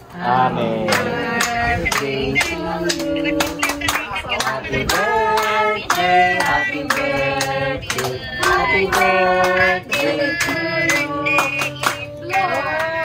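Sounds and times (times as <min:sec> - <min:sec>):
people singing together: 0:00.0 - 0:13.0
hands clapping: 0:00.9 - 0:13.0.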